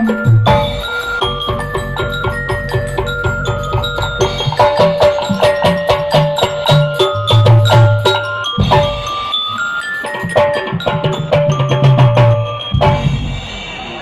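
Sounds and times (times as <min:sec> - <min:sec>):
held melody line: 0:00.0 - 0:13.5
frame drums beating: 0:00.0 - 0:14.0.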